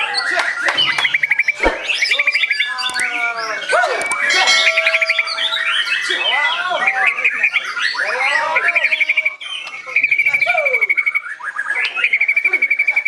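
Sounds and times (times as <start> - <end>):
bird singing trills and whistles: 0.0 - 13.0.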